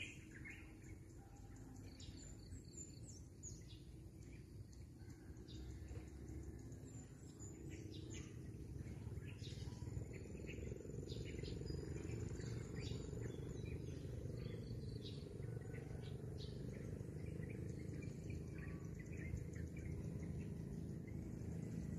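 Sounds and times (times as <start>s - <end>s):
birds chirping: 0.0s - 21.9s
low background rumble: 0.0s - 21.9s.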